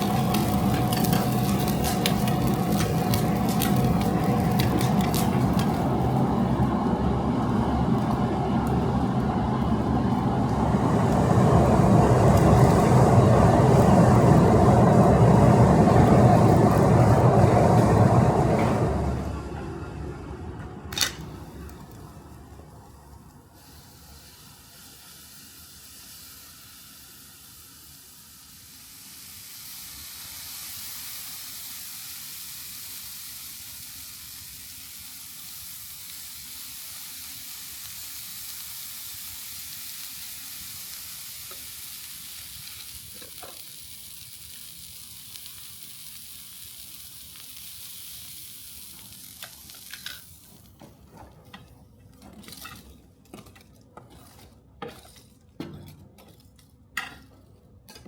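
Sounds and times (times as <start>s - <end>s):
sizzling hiss: 0.0s - 19.3s, 20.9s - 50.8s.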